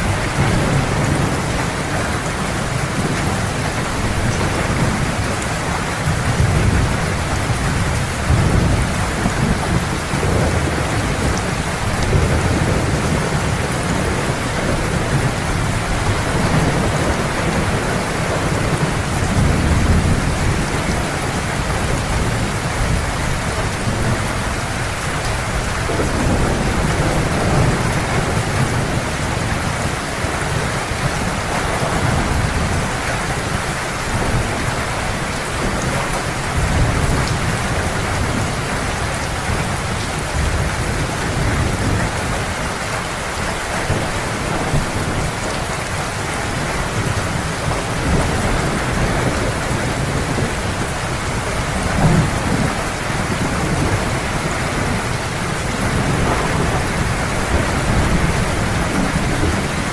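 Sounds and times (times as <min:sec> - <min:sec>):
thunder rolling: 0:00.0 - 0:33.5, 0:43.8 - 0:59.9
heavy rain: 0:00.0 - 0:59.9.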